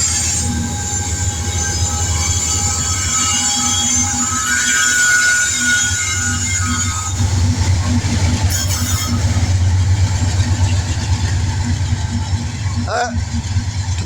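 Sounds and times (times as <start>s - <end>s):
steel wheel squeal: 0.0s - 14.0s
train rumbling: 0.0s - 14.0s.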